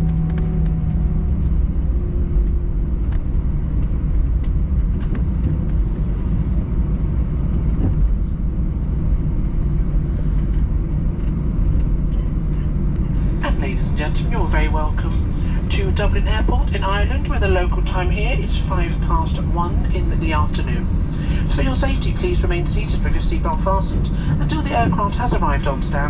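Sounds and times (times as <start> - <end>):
aircraft cabin rumble: 0.0 - 26.0
steady engine tone: 0.0 - 26.0.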